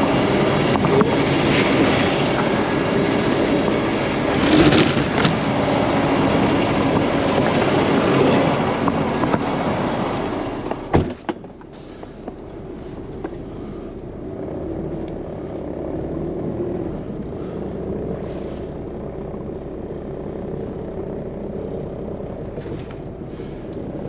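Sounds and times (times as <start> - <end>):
heavy truck engine rattling: 0.0 - 24.0.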